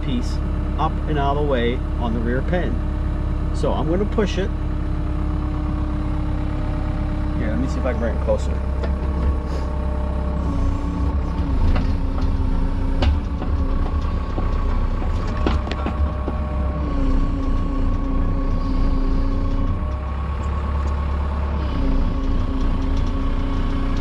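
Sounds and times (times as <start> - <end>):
excavator diesel engine running: 0.0 - 24.0
hydraulics working: 0.0 - 24.0.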